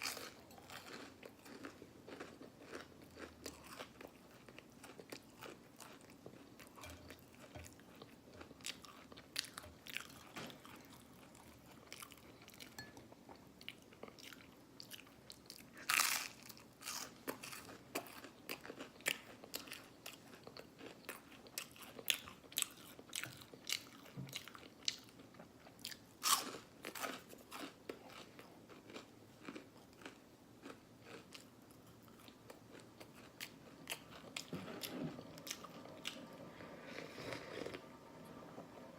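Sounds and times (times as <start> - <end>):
person chewing: 0.0 - 12.9, 13.6 - 36.3, 36.9 - 37.9.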